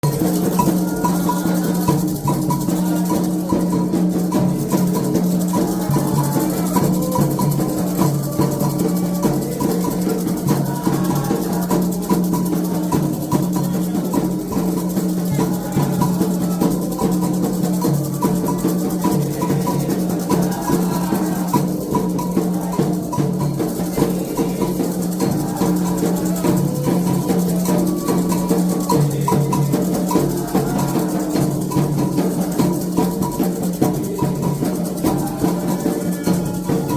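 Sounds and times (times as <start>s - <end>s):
hand drums: 0.0s - 36.9s
shaker rhythm: 0.0s - 36.9s.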